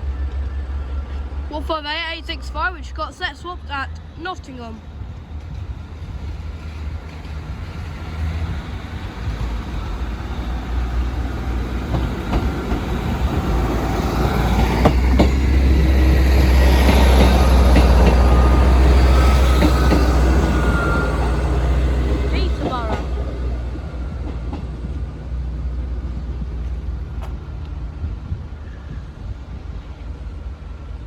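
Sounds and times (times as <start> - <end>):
train engine and wheel rumble: 0.0 - 31.0.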